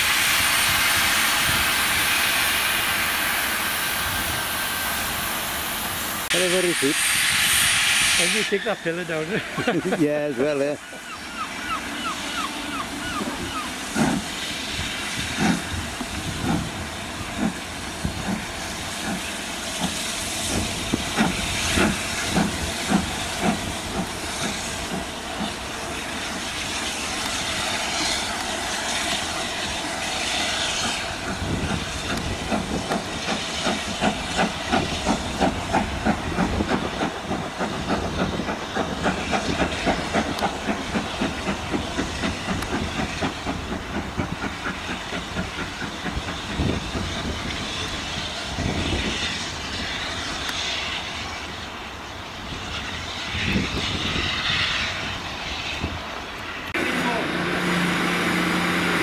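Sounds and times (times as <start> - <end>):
steam hissing: 0.0 - 59.0
steam locomotive exhaust chuffs: 0.0 - 59.0.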